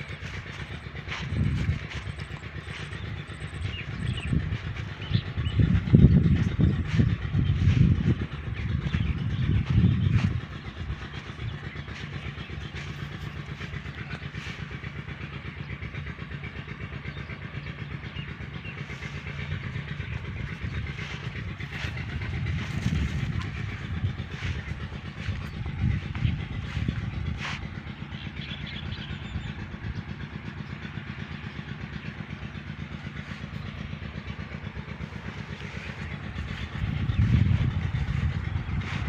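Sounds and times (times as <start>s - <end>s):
engine humming with pulsing: 0.0s - 39.0s.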